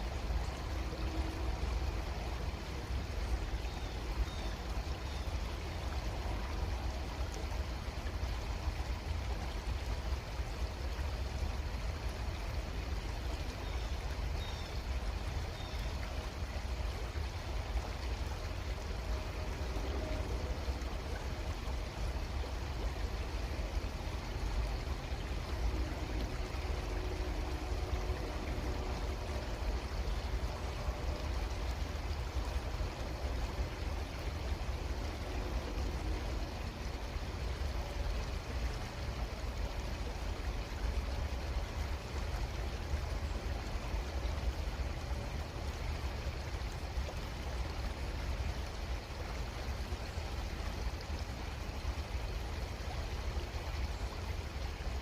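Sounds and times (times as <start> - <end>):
creek water flowing: 0.0 - 55.0.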